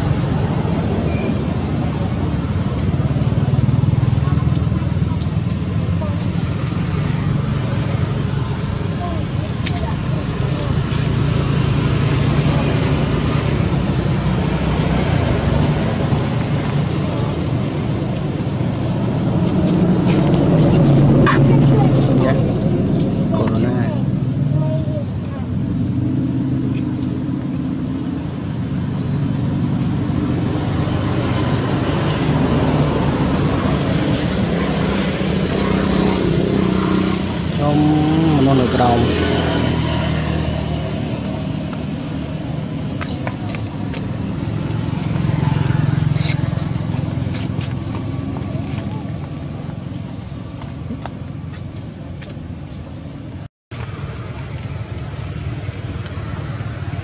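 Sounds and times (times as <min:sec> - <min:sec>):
motor vehicle engine hum: 0:00.0 - 0:57.0.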